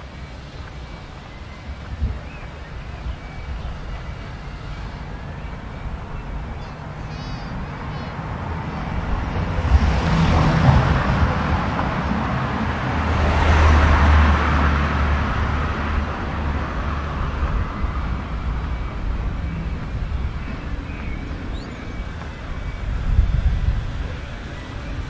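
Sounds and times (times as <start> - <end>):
car driving past: 4.0 - 25.0.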